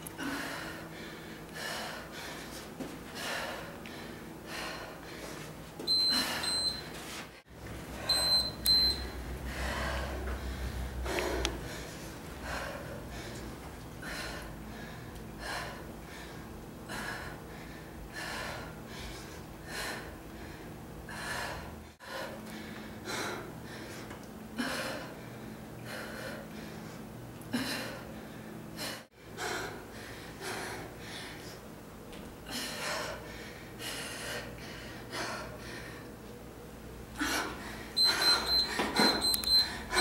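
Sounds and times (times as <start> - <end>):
woman breathing hard: 0.1 - 6.8, 7.9 - 31.7, 32.4 - 36.2, 37.1 - 40.0.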